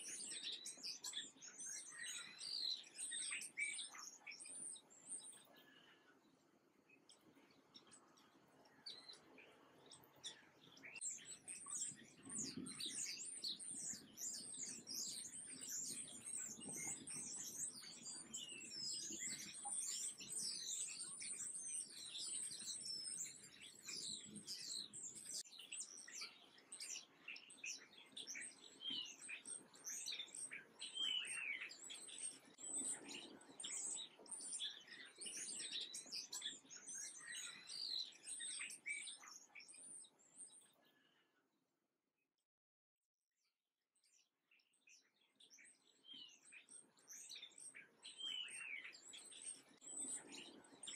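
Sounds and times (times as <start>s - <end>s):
songbirds chirping and twittering: 0.0s - 41.7s, 44.0s - 50.9s.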